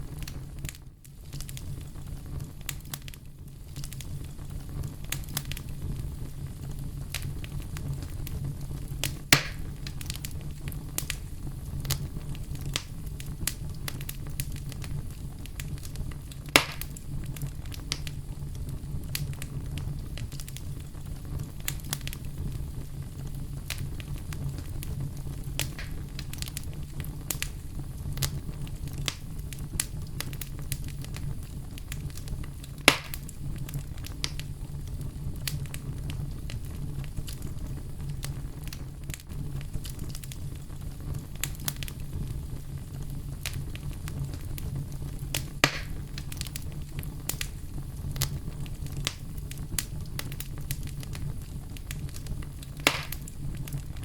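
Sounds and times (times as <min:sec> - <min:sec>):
campfire crackling: 0:00.0 - 0:54.0
flames rumbling: 0:00.0 - 0:54.0
sharp fire pops: 0:00.0 - 0:54.0.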